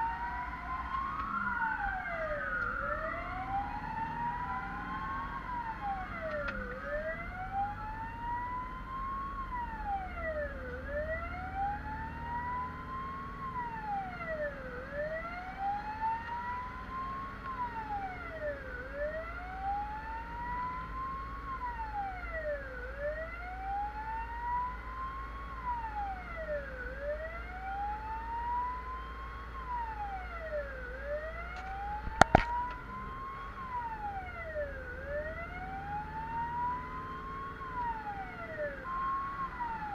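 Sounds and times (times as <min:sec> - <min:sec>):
fire engine wail siren: 0:00.0 - 0:39.9
truck engine and road rumble: 0:00.0 - 0:39.9.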